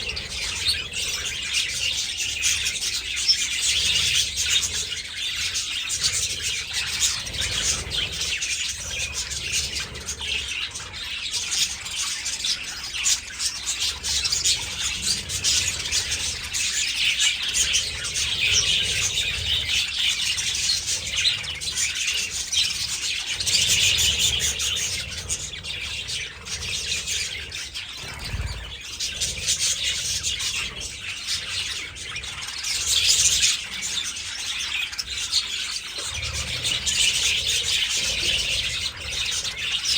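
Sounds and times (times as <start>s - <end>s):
flock of budgerigars chattering: 0.0s - 39.9s.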